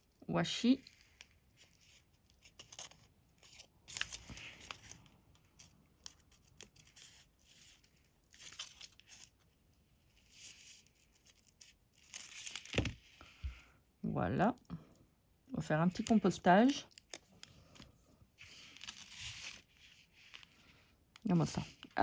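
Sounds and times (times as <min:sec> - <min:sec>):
plastic film rustling: 0:00.0 - 0:13.3, 0:15.6 - 0:22.0.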